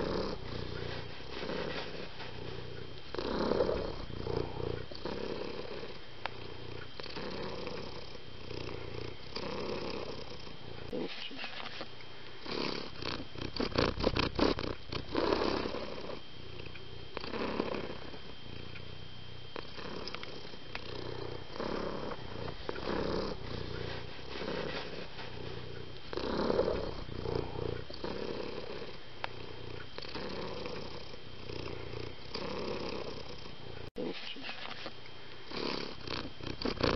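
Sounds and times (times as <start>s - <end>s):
cat purring: 0.0s - 34.9s, 35.5s - 36.9s.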